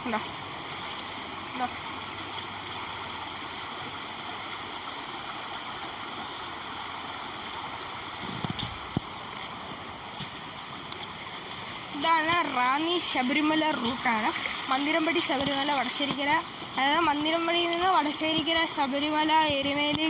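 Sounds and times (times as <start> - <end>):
water rushing into a drain: 0.0 - 19.6.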